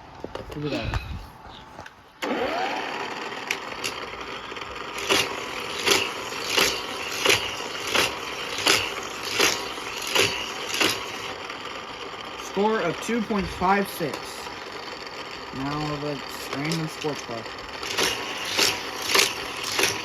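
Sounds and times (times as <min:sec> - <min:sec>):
toy track booster whirring: 0:02.2 - 0:20.0
wheels smacking toy car: 0:03.4 - 0:20.0.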